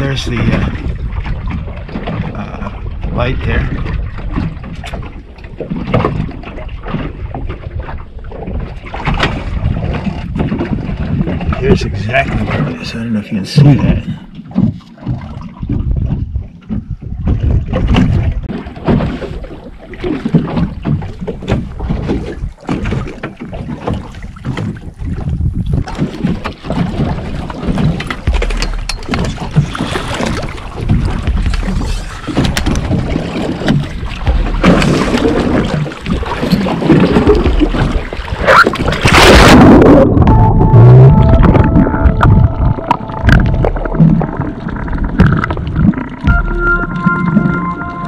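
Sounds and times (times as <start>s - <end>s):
wind buffeting microphone: 0.0s - 46.6s
loud splash and rushing water: 0.0s - 48.0s.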